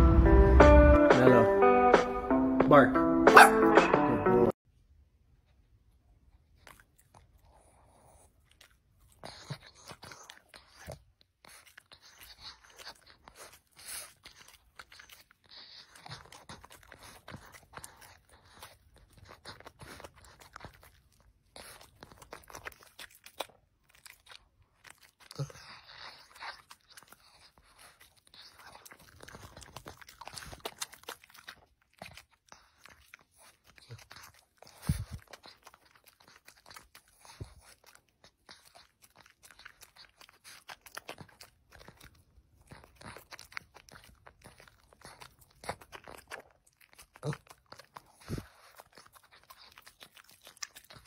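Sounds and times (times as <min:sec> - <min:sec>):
dog chewing crunchy cake: 0:06.3 - 0:51.0.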